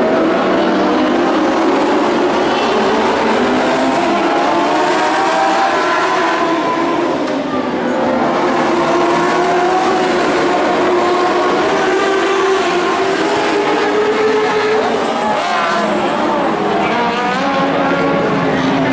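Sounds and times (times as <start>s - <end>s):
race car engines running hard: 0.0s - 18.9s.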